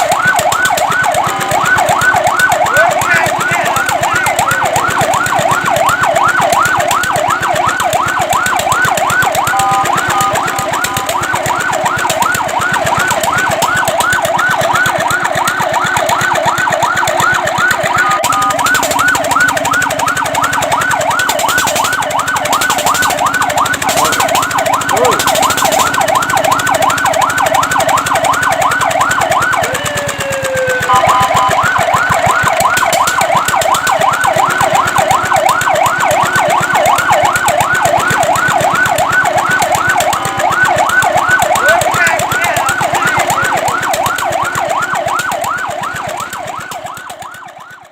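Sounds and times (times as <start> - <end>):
fire truck siren yelp: 0.0 - 47.9
siren wail: 0.0 - 47.9
two-note siren tone: 0.0 - 47.9.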